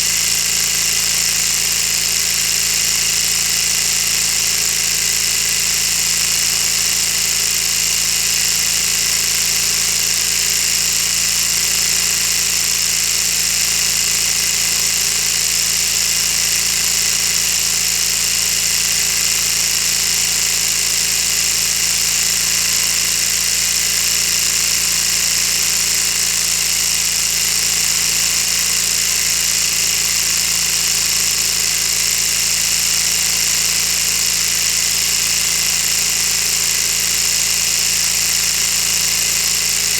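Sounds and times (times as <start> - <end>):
toy engine whirring clatter: 0.0 - 39.9.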